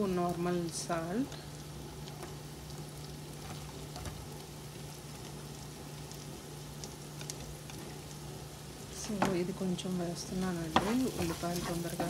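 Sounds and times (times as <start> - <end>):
onions sizzling in a pan: 0.0 - 12.0
faint crackles: 0.2 - 12.0.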